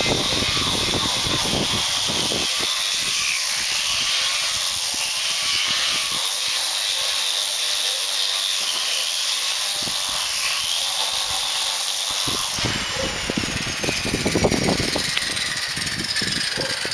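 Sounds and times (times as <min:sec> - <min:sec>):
power sander on concrete: 0:00.0 - 0:16.9.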